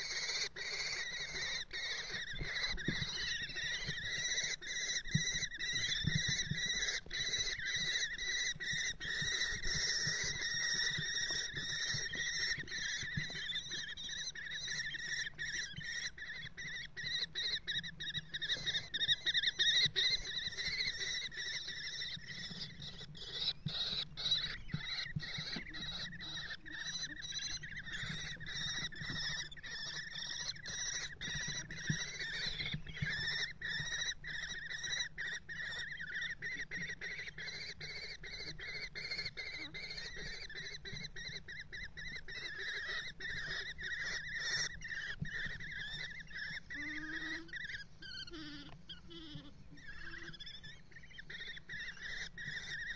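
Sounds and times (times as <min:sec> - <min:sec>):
kestrels chittering: 0:00.0 - 0:52.9.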